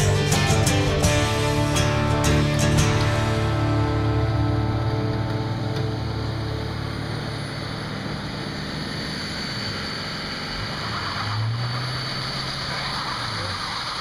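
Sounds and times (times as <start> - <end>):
pickup truck engine running: 0.0 - 14.0.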